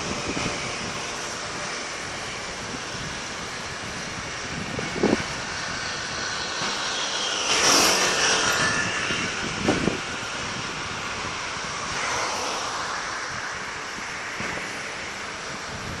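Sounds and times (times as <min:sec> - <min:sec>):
steady outdoor rumble: 0:00.0 - 0:16.0.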